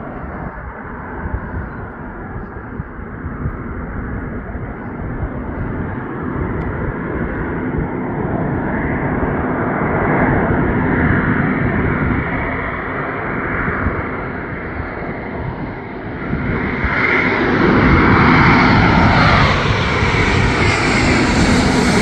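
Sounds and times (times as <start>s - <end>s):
airplane engine passing: 0.0s - 22.0s.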